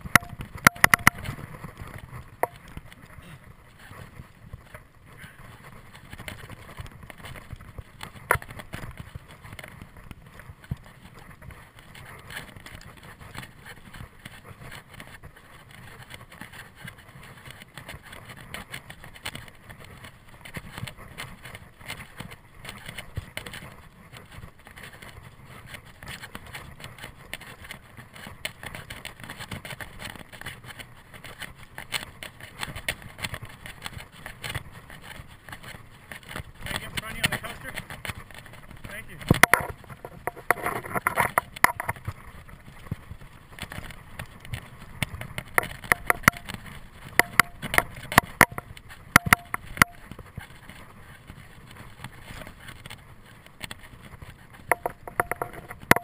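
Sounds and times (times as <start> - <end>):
bike rattling and clicking: 0.0 - 56.0
bike tyres on dirt: 0.0 - 56.0.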